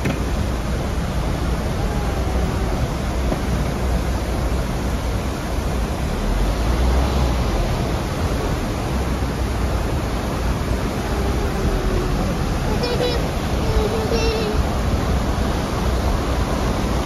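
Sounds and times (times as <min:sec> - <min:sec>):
car rumbling across bridge: 0:00.0 - 0:17.0
floodwater rushing in rapids: 0:00.0 - 0:17.0.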